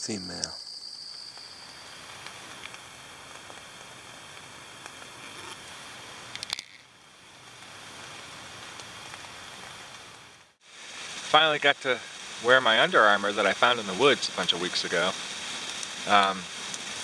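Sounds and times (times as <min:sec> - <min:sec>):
faint outdoor hiss: 0:00.0 - 0:17.0
high insect trill: 0:00.0 - 0:17.0.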